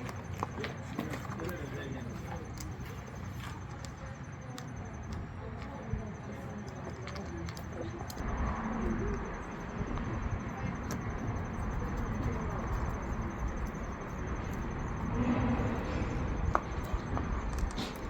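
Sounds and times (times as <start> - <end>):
faint indistinct voices: 0.0 - 18.0
low crowd rumble: 0.0 - 18.0.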